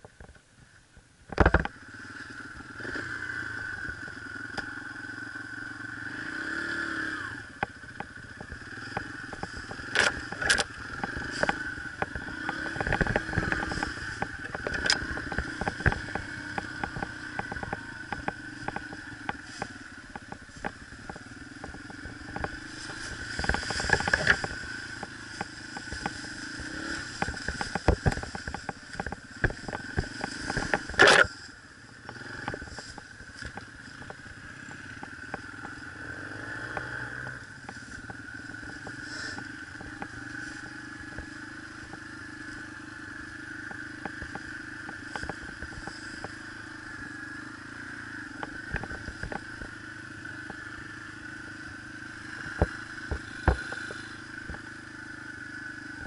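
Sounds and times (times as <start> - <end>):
dirt bike engine running: 0.0 - 56.0
knocks and clatter over rough ground: 0.0 - 56.0.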